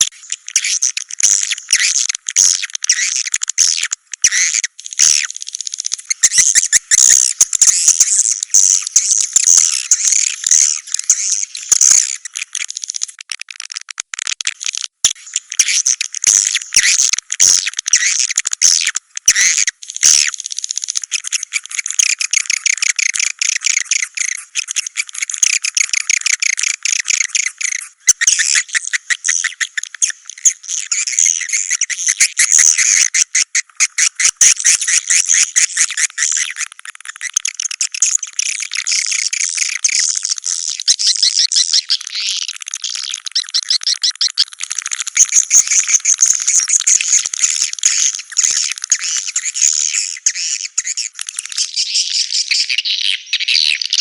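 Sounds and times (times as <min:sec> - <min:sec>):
swiftlets chattering and chirping: 0:00.1 - 0:13.2, 0:14.6 - 0:54.0.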